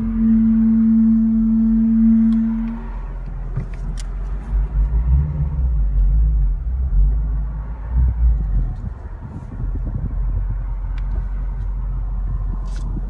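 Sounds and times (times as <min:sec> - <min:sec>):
brakes grinding groan: 0:00.0 - 0:13.0
car engine rumble: 0:00.0 - 0:13.0.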